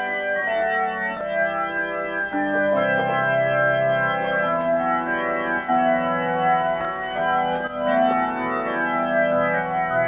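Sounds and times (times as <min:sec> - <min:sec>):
electronic keyboard organ chords: 0:00.0 - 0:10.0.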